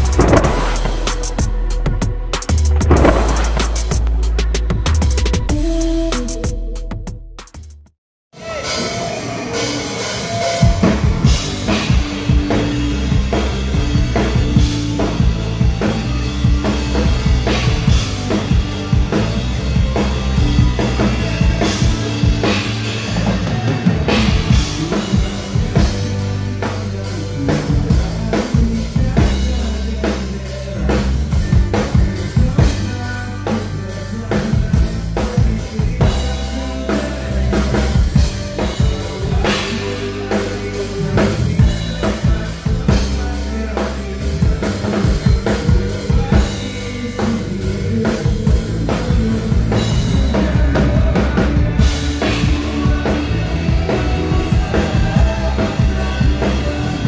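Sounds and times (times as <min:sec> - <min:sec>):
sustained low bass notes: 0:00.0 - 0:07.4, 0:10.7 - 0:57.0
drums keeping a steady beat: 0:00.0 - 0:57.0.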